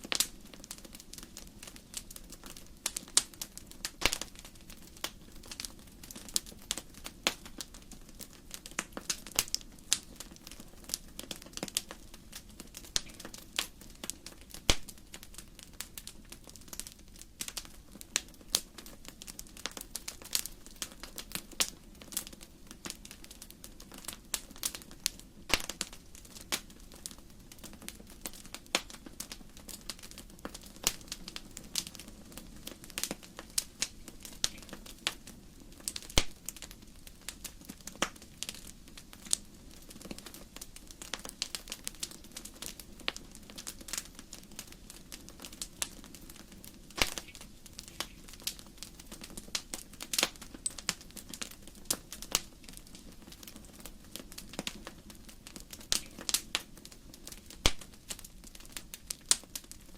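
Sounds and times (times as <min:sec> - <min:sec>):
fire crackling: 0:00.0 - 0:59.9
low rumble of fire: 0:00.0 - 0:59.9.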